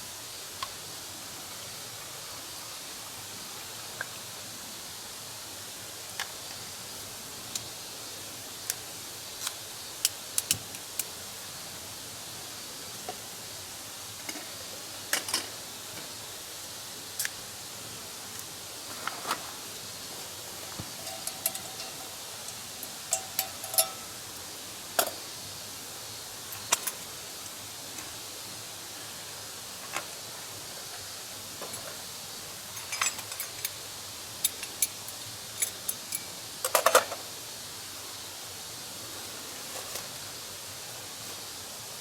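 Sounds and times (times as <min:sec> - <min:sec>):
steady fire hiss: 0:00.0 - 0:42.0.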